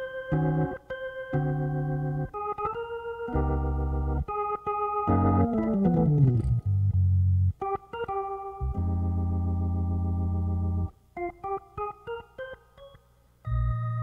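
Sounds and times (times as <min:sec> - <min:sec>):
organ playing held chords: 0:00.0 - 0:14.0.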